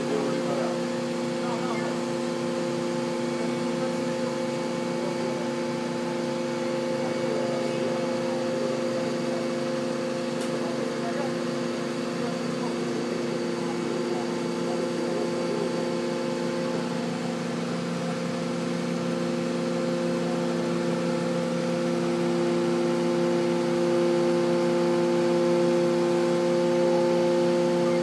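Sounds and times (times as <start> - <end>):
truck engine and hydraulics humming: 0.0 - 28.0.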